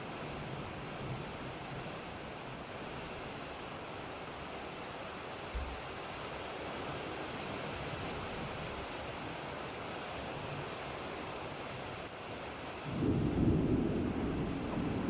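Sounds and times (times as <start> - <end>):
rainstorm hiss: 0.0 - 15.0.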